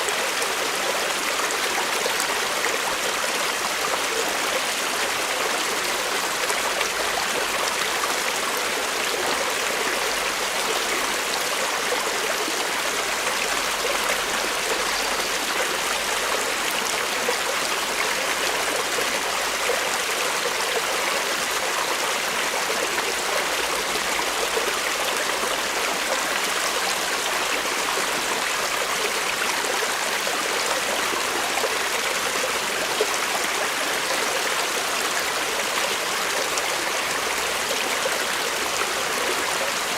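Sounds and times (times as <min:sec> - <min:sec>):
creek water running over rocks: 0:00.0 - 0:39.9.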